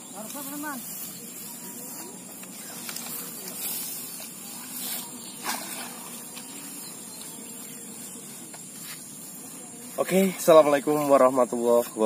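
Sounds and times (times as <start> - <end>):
high-pitched outdoor hiss: 0.0 - 12.0.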